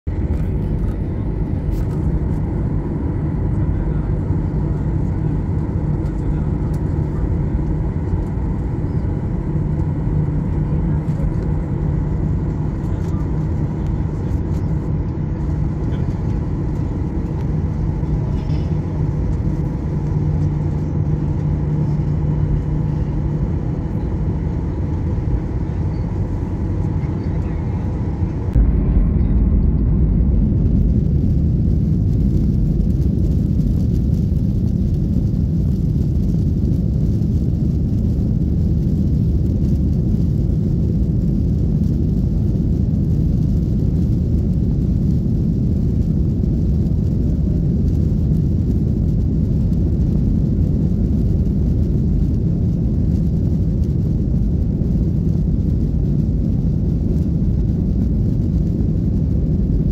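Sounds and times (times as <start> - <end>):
jet airliner rumbling on runway: 0.1 - 59.9.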